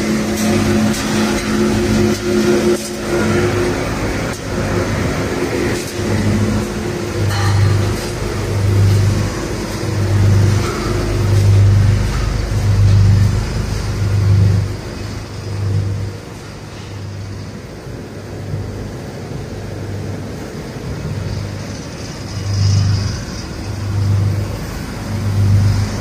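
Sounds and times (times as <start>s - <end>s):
granulator machine din: 0.0s - 26.0s
pulsing low hum: 0.0s - 26.0s.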